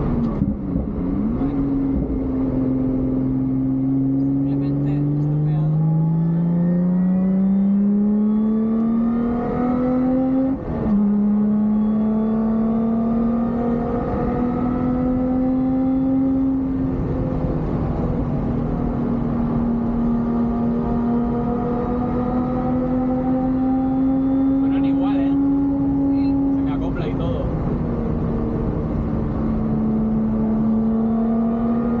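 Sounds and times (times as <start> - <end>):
car engine at full throttle: 0.0 - 32.0.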